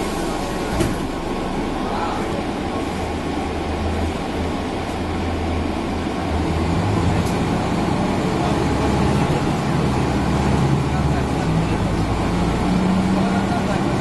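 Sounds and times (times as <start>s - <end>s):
bus engine running: 0.0s - 14.0s
road noise: 0.0s - 14.0s.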